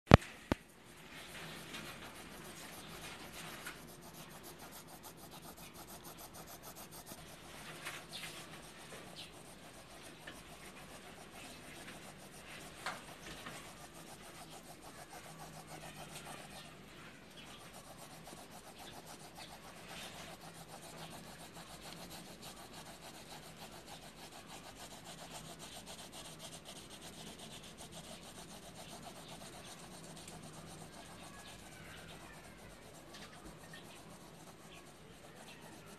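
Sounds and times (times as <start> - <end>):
pencil scratching on paper: 0.1 - 35.9
pencil tick: 1.7 - 16.7, 17.4 - 35.9.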